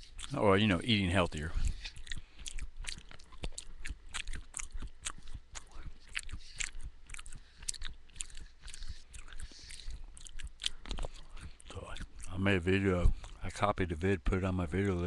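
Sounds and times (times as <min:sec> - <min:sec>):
person chewing crunchy granola: 0:00.0 - 0:13.5.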